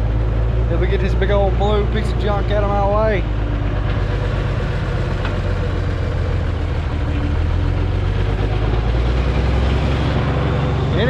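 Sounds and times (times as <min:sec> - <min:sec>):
heavy equipment engine rumbling: 0:00.0 - 0:11.0.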